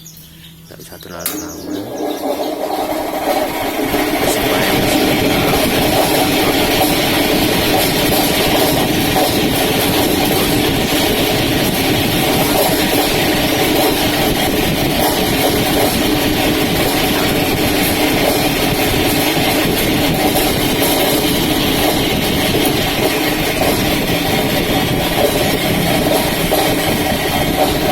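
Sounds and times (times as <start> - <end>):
spinning machine running: 1.1 - 27.9.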